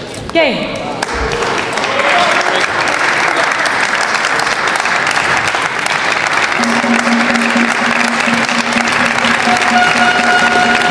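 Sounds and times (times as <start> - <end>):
crowd applauding: 1.0 - 10.9.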